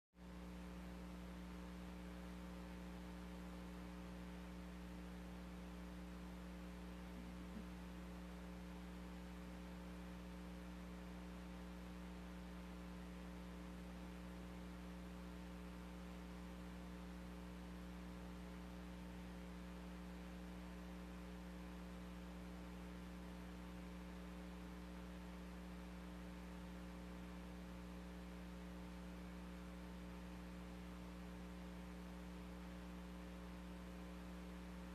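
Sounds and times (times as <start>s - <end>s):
low electrical hum: 0.2s - 34.9s.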